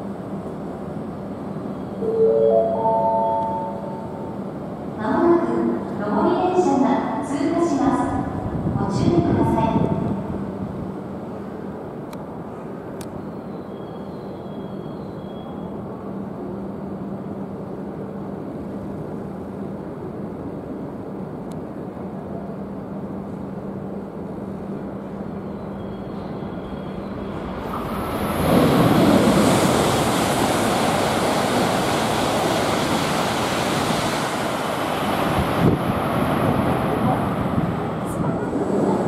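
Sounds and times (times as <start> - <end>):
loud rushing of high-speed train: 0.0 - 39.0.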